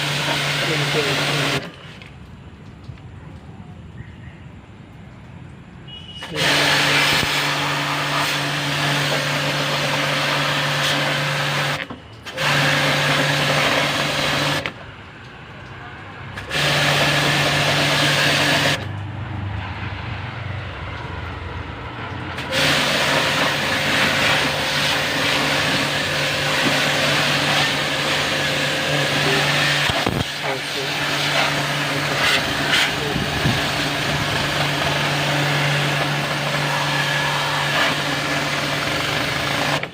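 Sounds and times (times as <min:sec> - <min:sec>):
pressure washer motor humming: 0:00.0 - 0:02.1, 0:05.9 - 0:39.9
water jet hissing: 0:00.0 - 0:02.3, 0:05.9 - 0:19.0, 0:20.9 - 0:39.9.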